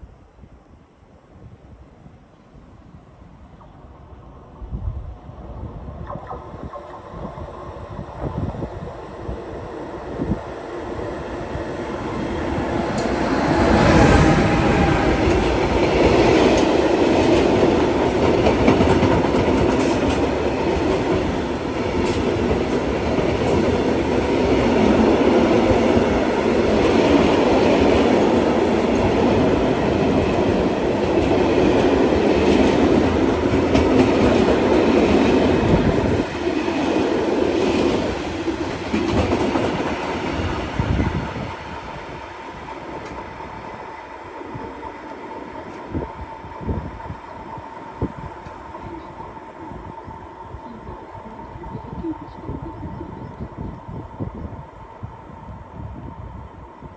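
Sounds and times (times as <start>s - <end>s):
train wheels on rails: 6.2s - 52.2s.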